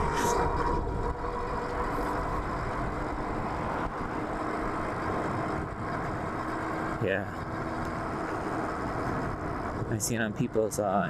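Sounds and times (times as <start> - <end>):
wind rush on microphone: 0.0 - 10.8
road noise: 0.0 - 11.0.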